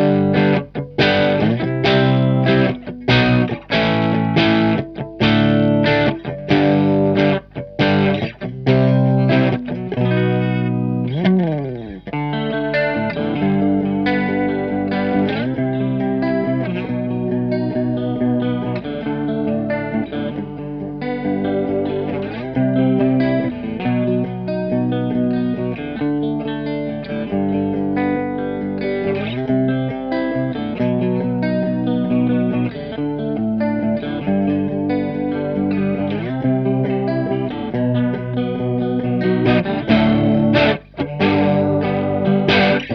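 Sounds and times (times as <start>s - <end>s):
overdriven electric guitar chords: 0.0s - 42.9s.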